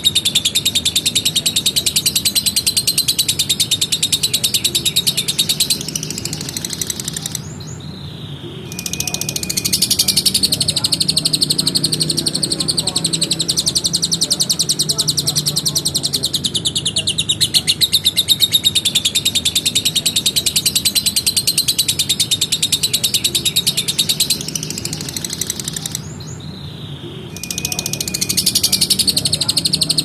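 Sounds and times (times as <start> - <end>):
lovebird chattering: 0.0 - 8.0, 8.6 - 30.0.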